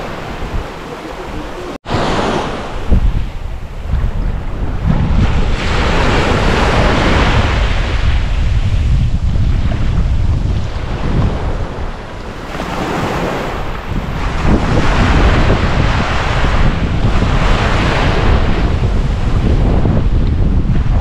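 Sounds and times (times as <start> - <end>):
ocean waves breaking on beach: 0.0 - 21.0
wind buffeting microphone: 0.0 - 21.0.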